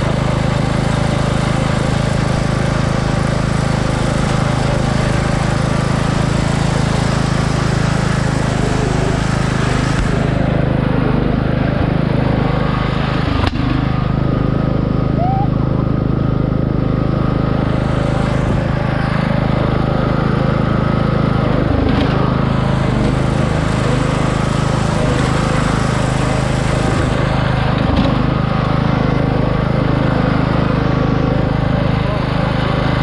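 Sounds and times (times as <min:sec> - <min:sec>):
riding lawn mower engine running: 0:00.0 - 0:33.0.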